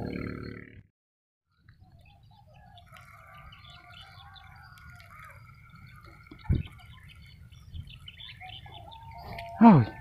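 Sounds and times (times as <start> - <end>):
birds calling: 1.5 - 10.0.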